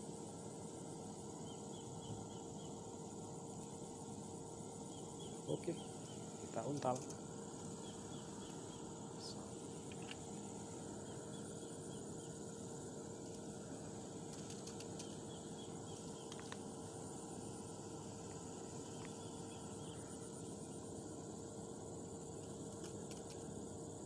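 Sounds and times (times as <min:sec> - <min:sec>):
insect buzz: 0:00.0 - 0:24.0.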